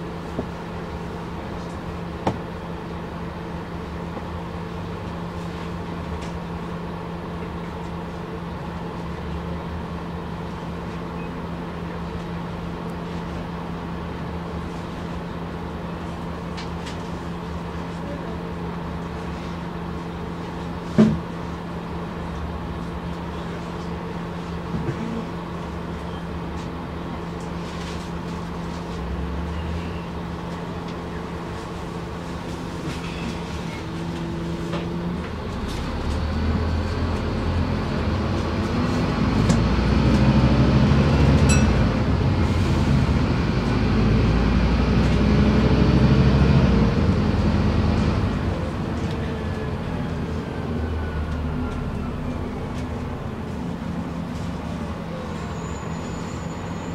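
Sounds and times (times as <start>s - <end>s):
bus diesel engine: 0.0s - 56.9s.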